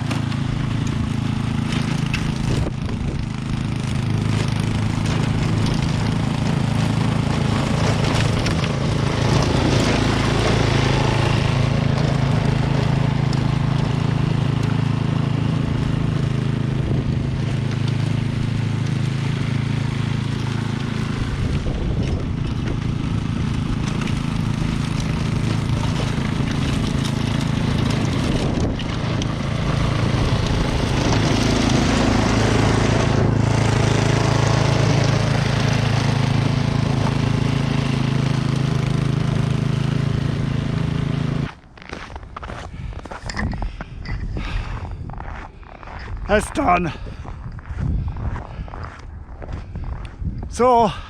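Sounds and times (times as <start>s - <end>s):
snowblower engine running: 0.0s - 51.0s.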